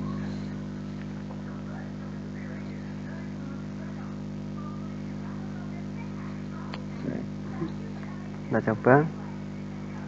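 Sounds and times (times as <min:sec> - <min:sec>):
faint indistinct background sounds: 0:00.0 - 0:10.0
low electrical hum: 0:00.0 - 0:10.0.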